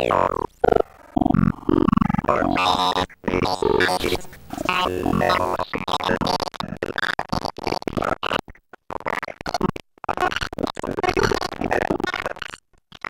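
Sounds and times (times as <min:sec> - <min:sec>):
glitched stuttering synthesizer: 0:00.0 - 0:12.5.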